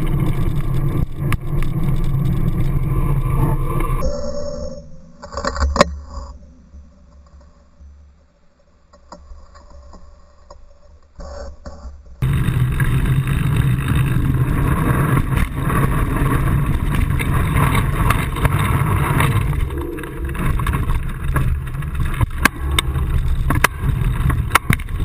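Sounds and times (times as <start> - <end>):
bicycle tyre and frame rumble: 0.0 - 4.0, 9.0 - 25.0.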